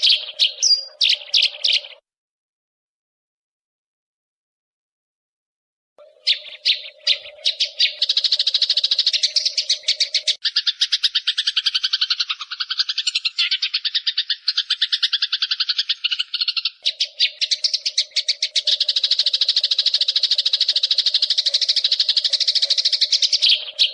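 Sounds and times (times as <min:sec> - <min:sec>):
sparrows chattering: 0:00.0 - 0:02.0, 0:06.0 - 0:23.9.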